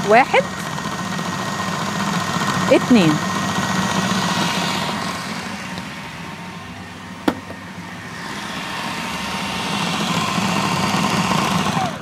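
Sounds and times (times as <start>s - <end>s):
food processor motor running: 0.0s - 12.0s.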